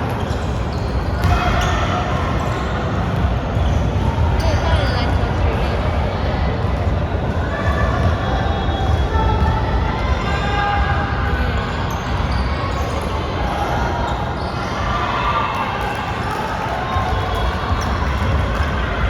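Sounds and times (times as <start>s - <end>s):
gym crowd din: 0.0s - 19.0s.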